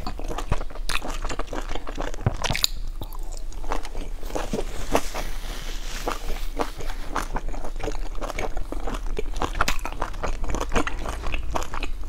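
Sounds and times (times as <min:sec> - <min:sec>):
person chewing crunchy bun: 0:00.0 - 0:12.0.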